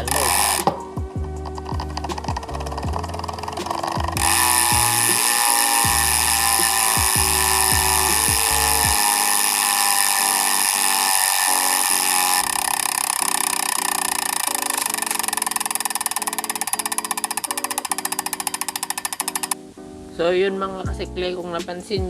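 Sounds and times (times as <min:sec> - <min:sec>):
bicycle hub ratchet buzzing: 0:00.0 - 0:19.6.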